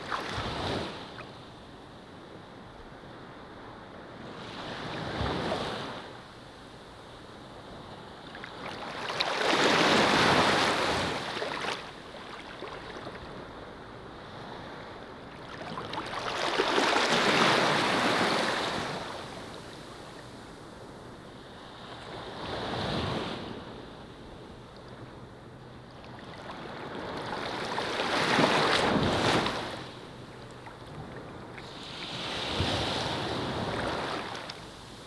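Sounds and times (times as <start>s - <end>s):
small waves washing on beach: 0.0s - 1.4s, 7.6s - 25.2s, 25.8s - 35.0s.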